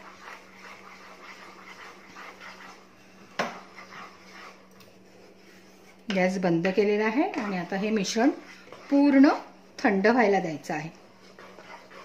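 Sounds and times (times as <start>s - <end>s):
low steady hum: 0.0s - 12.0s
wooden spatula scraping metal pan: 0.0s - 12.0s.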